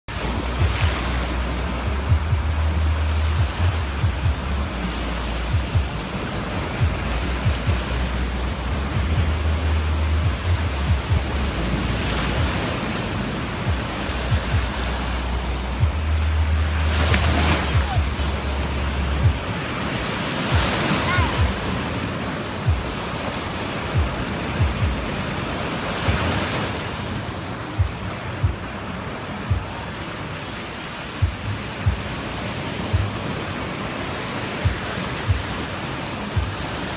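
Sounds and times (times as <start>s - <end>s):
sea waves washing onto beach: 0.1s - 36.9s
wind buffeting microphone: 0.1s - 36.9s.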